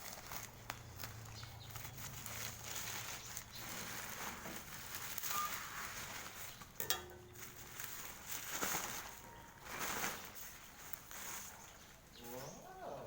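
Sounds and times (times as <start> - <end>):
parcel rustling and scraping: 0.0 - 12.6.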